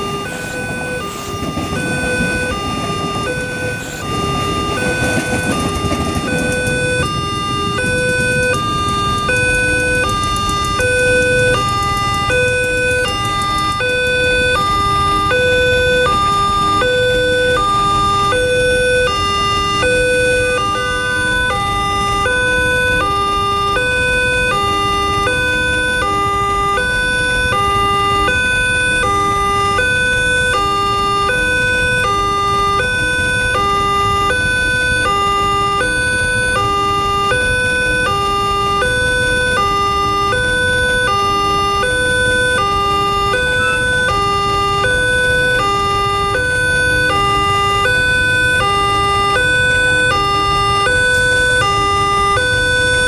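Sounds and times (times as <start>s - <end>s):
level crossing warning siren: 0.0s - 53.0s.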